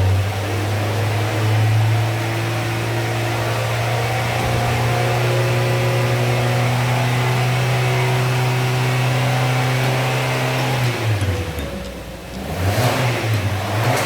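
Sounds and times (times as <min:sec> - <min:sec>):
vehicle engine running steadily: 0:00.0 - 0:14.0.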